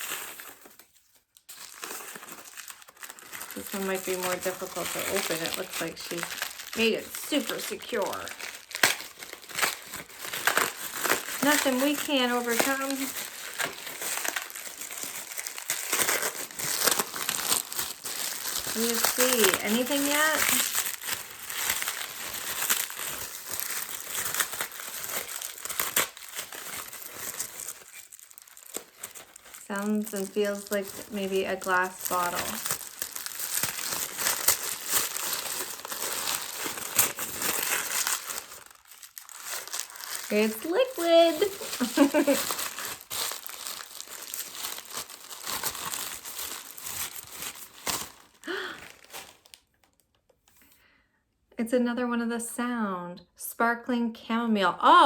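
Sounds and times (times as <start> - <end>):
gift wrapping being torn: 0.0 - 50.1.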